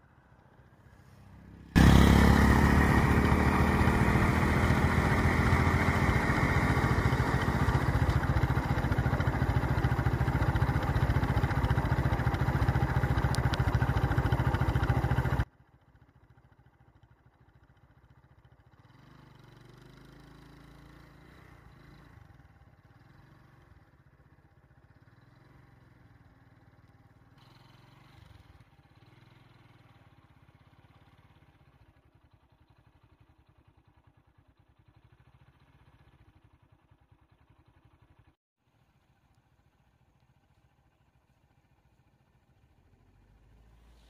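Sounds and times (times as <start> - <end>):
faint engine idling hum: 0.0 - 19.0, 19.6 - 44.0.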